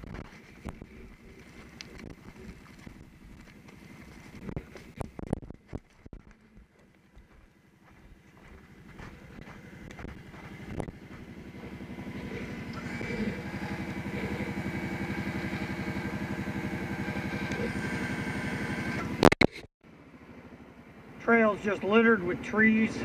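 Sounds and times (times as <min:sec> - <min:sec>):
atv engine idling: 0:00.0 - 0:19.2, 0:19.9 - 0:23.0.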